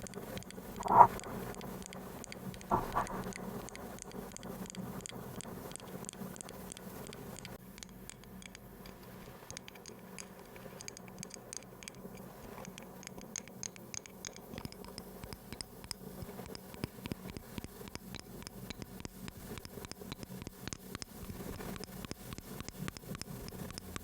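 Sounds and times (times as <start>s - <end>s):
light scratchy taps and clicks: 0.0s - 24.0s.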